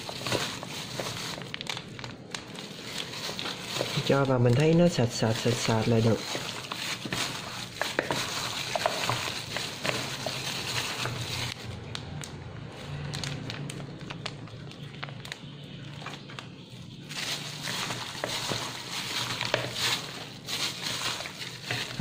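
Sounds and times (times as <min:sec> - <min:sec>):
plastic glove crinkling: 0:00.0 - 0:22.0.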